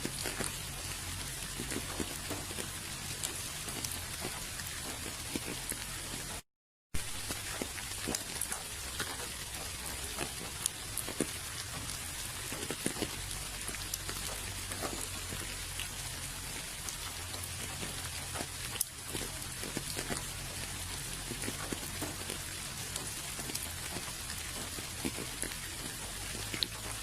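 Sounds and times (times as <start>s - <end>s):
steady rain with ticking drops: 0.0s - 6.4s, 7.0s - 27.0s.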